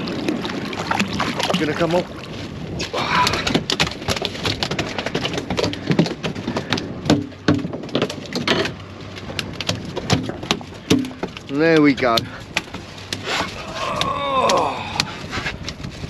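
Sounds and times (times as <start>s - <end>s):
knocks and clatter on boat: 0.0s - 16.0s.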